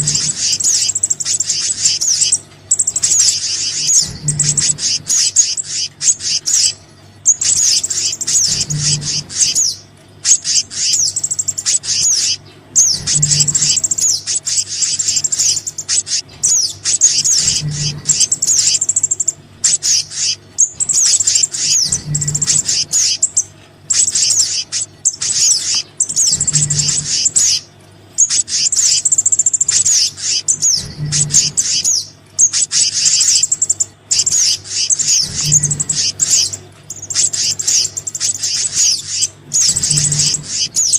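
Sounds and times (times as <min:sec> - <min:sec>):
high twittering bird chirps: 0:00.0 - 0:40.9
pulsing low hum: 0:00.0 - 0:40.9.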